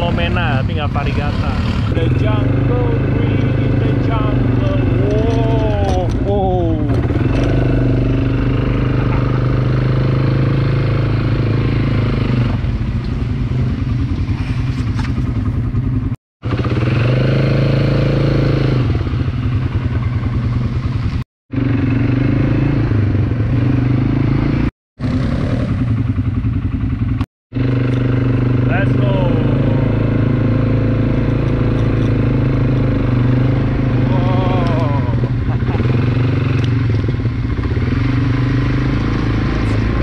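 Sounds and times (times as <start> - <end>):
quad bike engine running: 0.0 - 40.0.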